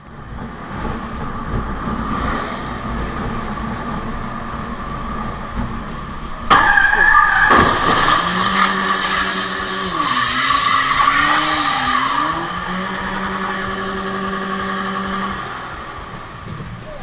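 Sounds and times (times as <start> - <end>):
engine at high revs: 0.0 - 17.0
tyre squealing: 1.0 - 17.0.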